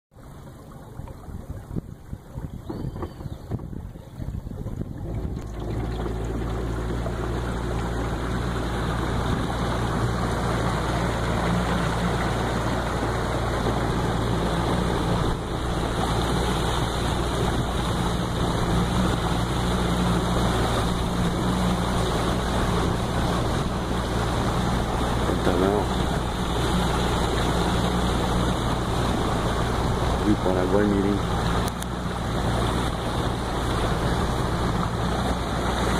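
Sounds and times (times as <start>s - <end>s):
motorboat engine running: 0.1s - 35.9s
water rushing along hull: 0.1s - 35.9s.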